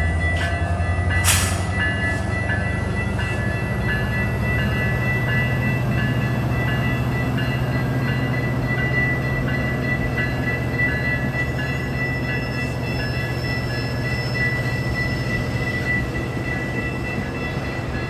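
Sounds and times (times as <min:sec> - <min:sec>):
bell ringing: 0:00.0 - 0:18.0
diesel locomotive rumbling: 0:00.0 - 0:18.0.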